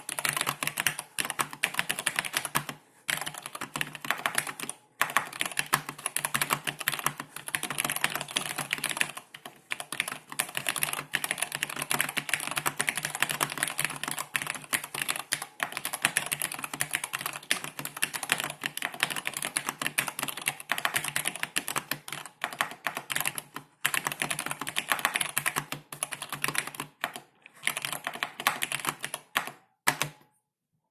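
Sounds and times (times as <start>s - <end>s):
mechanical keyboard typing: 0.0s - 30.2s.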